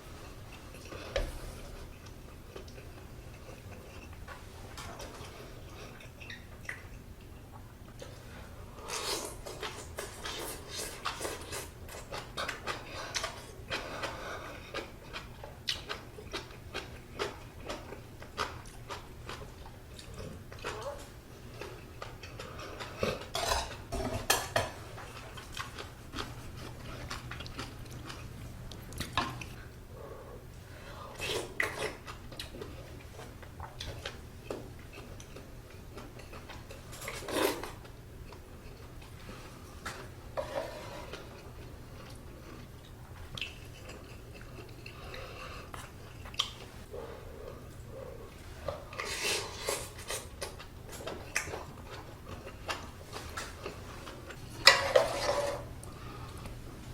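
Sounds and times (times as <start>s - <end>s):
eating sounds: 0.2s - 56.6s.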